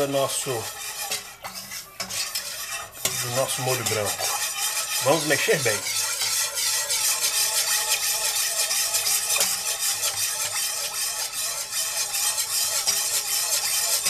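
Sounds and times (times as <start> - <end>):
wire whisk scraping a pot: 0.0 - 14.0.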